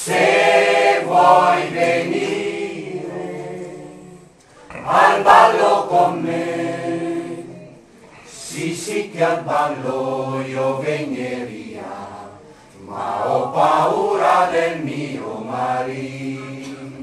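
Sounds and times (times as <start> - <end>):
choir singing unaccompanied: 0.0 - 17.0.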